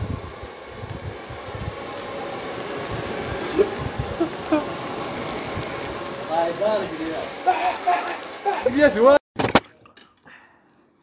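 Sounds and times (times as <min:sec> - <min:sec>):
air blowing onto charcoal: 0:00.0 - 0:09.5.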